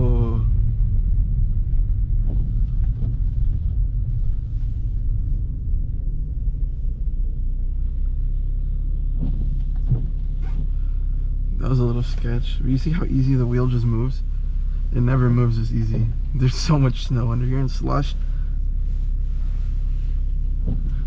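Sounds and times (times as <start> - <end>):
car engine low rumble: 0.0 - 21.0.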